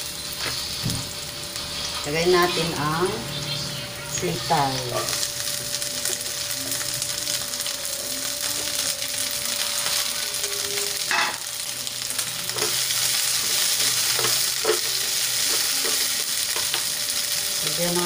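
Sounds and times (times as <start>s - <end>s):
beans sizzling in hot oil: 0.0s - 18.0s.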